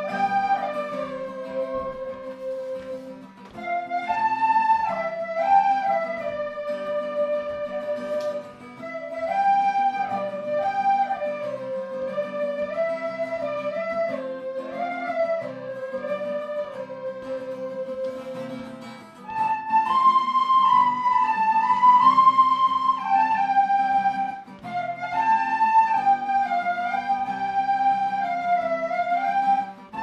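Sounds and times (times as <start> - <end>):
slow flute melody: 0.0 - 30.0
soft accompaniment: 0.0 - 30.0.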